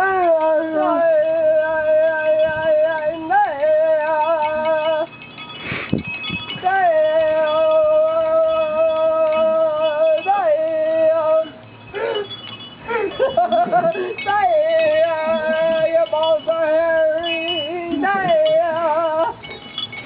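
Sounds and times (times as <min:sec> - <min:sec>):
broken vocal sounds: 0:00.0 - 0:05.1, 0:06.6 - 0:19.4.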